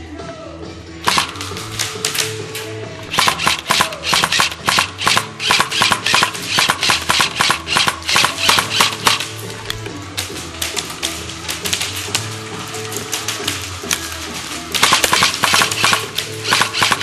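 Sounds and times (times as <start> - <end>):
faint background music: 0.0 - 17.0
airsoft guns firing: 1.0 - 17.0
bbs striking barricades: 1.0 - 17.0.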